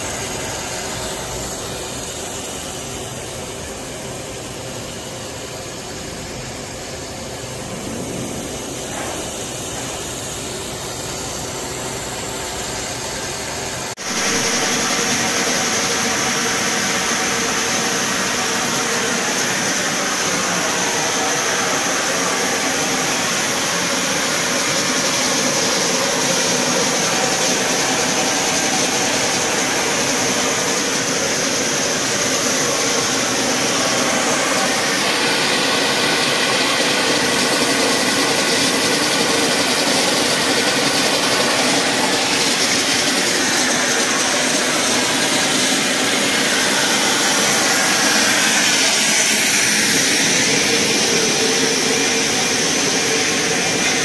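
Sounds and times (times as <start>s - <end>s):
machine motors whirring and hissing: 0.0s - 54.0s.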